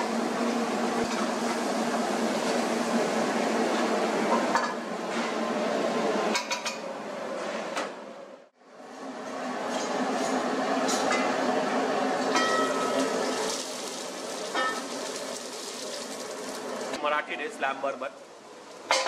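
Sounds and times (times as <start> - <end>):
kitchen rush and hum: 0.0 - 19.0.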